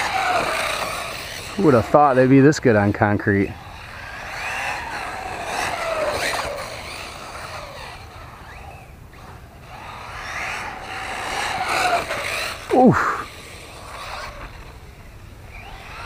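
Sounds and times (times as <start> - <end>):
rc car motor whining: 0.0 - 16.0.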